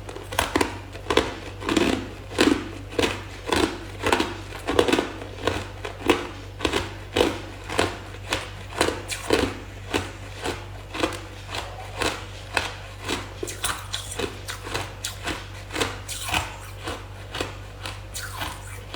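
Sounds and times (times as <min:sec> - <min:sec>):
person chewing ice: 0:00.0 - 0:18.9.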